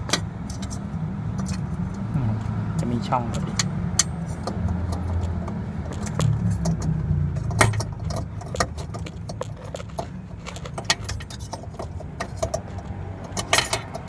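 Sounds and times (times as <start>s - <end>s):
bulb base clicking and scraping: 0.0s - 14.0s.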